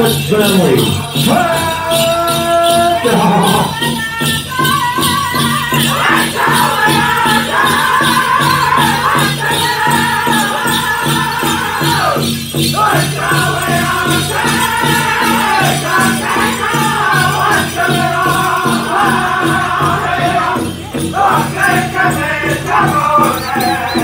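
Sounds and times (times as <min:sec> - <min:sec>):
bells jingling: 0:00.0 - 0:24.0
big drum beat: 0:00.0 - 0:24.0
group singing in high voices: 0:01.0 - 0:24.0.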